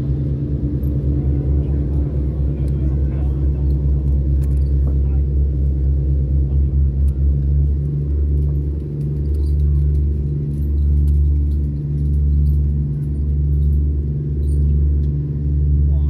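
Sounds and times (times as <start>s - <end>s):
low mechanical rumble and hum: 0.0s - 16.0s.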